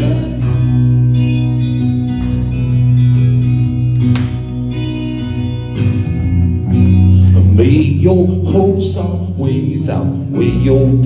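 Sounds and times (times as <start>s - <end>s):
guitar chords ringing: 0.0s - 11.0s
steady low bass notes: 0.0s - 11.0s.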